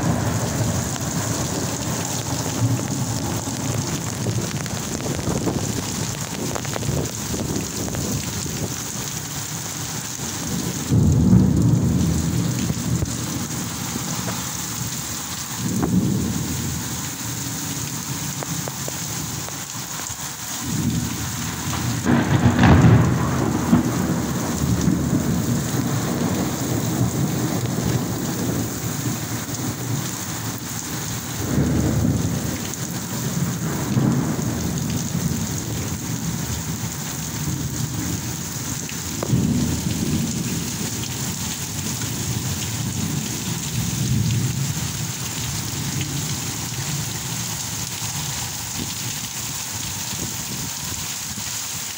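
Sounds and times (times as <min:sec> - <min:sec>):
thunder rumbling: 0:00.0 - 0:19.6, 0:20.6 - 0:48.0
heavy rain pouring: 0:00.0 - 0:51.9.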